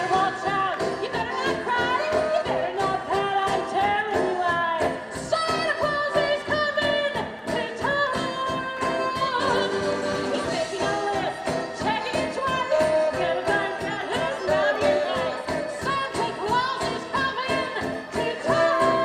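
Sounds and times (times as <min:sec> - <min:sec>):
voices singing with instruments: 0:00.0 - 0:19.0.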